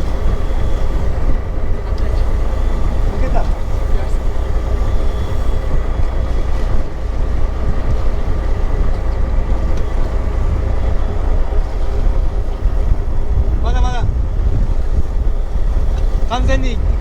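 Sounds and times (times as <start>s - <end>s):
boat engine running: 0.0s - 17.0s
wind rumble on microphone: 0.0s - 17.0s.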